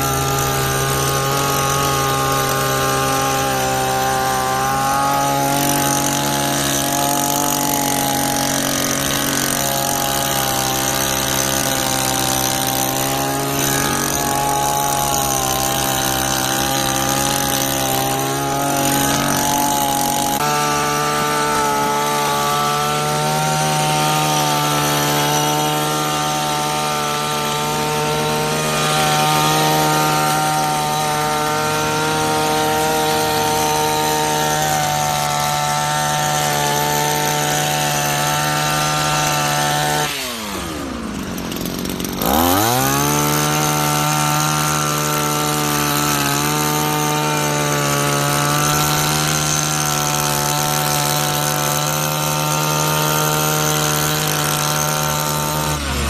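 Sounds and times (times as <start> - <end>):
hedge trimmer engine running: 0.0 - 56.0
trimmer blade cutting hedge: 0.0 - 56.0.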